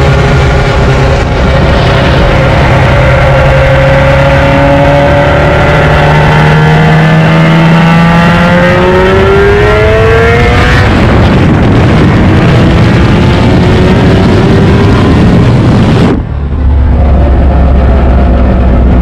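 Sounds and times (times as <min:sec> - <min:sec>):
rotary engine accelerating: 0:00.0 - 0:19.0.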